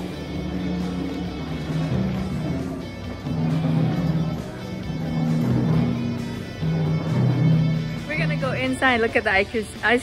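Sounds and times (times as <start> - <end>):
background music with low notes: 0.0 - 10.0.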